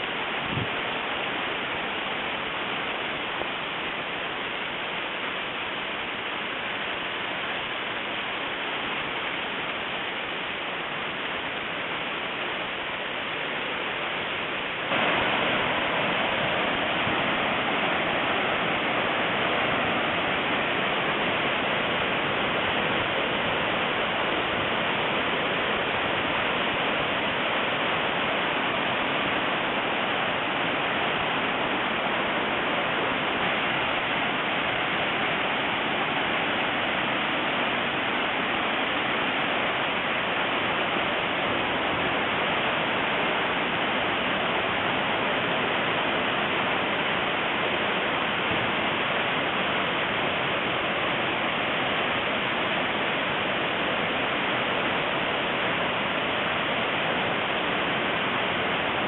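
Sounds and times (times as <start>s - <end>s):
rush of falling water: 0.0s - 59.0s.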